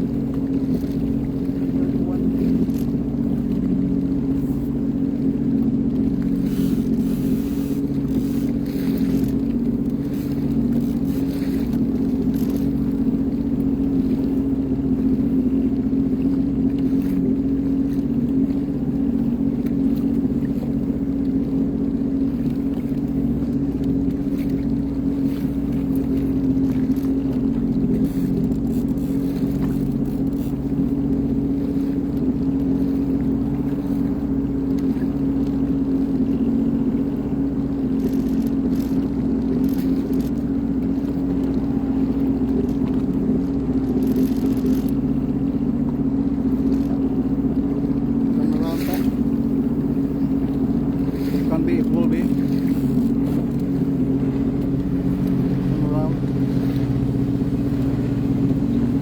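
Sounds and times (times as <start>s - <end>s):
watercraft engine humming: 0.0s - 59.0s.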